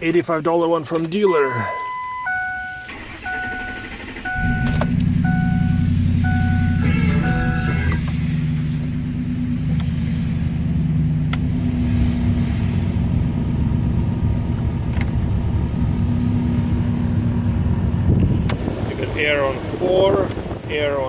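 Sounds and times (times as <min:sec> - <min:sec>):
pickup engine idling: 0:01.3 - 0:21.0.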